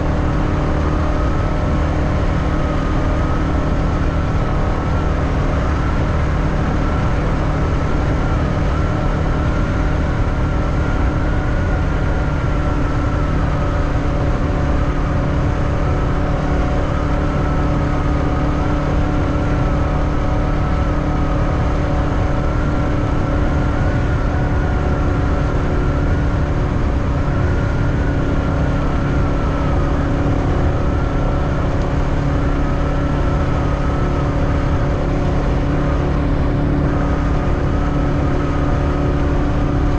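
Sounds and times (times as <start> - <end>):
motorbike engine running: 0.0 - 39.9
wind and road rumble: 0.0 - 39.9.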